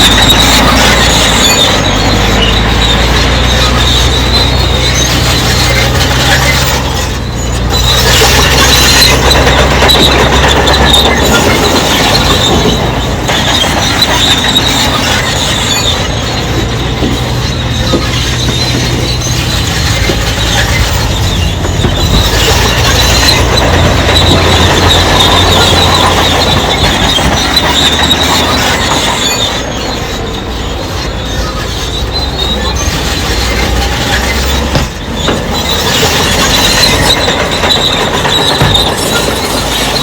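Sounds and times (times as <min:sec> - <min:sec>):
bulldozer diesel engine under load: 0:00.0 - 0:40.0
steel tracks squealing and clanking: 0:00.0 - 0:40.0.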